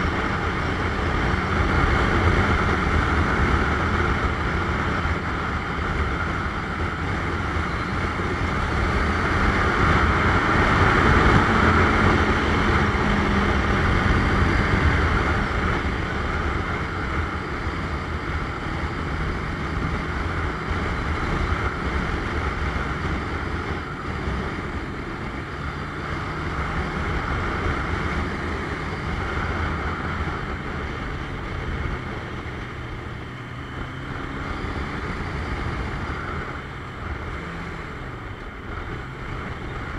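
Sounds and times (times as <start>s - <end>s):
faint motorcycle engine: 0.0s - 39.9s
wind rush on microphone: 0.0s - 39.9s.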